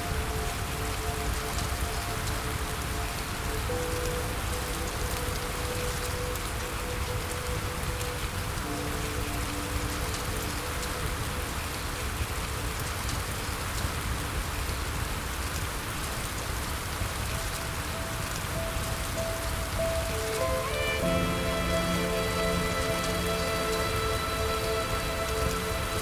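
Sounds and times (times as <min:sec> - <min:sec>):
soft sustained music notes: 0:00.0 - 0:15.0, 0:16.0 - 0:26.0
steady rain hiss: 0:00.0 - 0:26.0.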